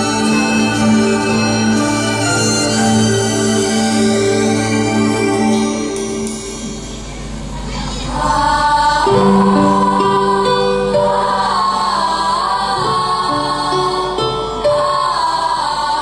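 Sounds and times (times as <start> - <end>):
choir singing: 0.0 - 16.0
held low accompanying notes: 0.0 - 16.0.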